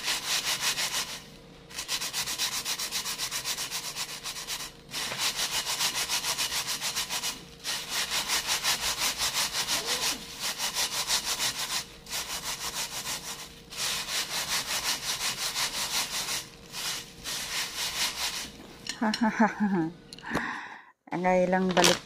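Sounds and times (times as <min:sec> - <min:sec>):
crackers rubbed against mesh sieve: 0:00.0 - 0:18.7.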